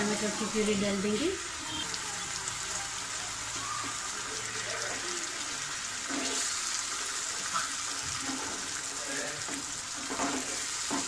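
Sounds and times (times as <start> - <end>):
tomato puree sizzling in a pan: 0.0 - 11.0.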